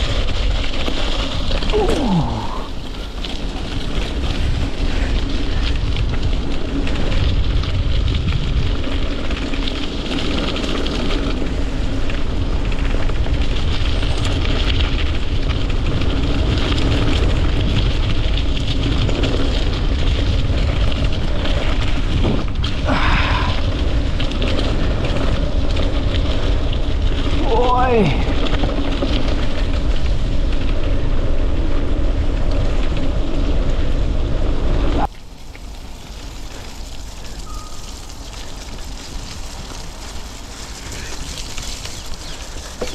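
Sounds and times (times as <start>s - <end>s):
bike tyres rumbling on dirt trail: 0.0s - 42.9s
wind buffeting microphone: 0.0s - 42.9s.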